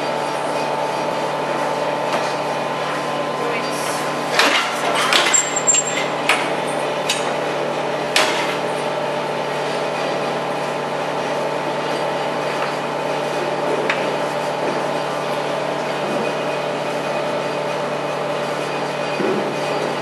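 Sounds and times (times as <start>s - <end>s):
barn machinery hum: 0.0s - 20.0s.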